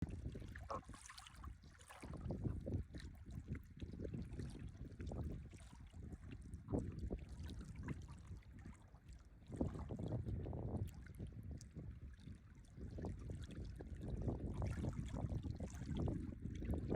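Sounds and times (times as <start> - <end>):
wind buffeting microphone: 0.0 - 0.9, 1.9 - 8.8, 9.4 - 16.9.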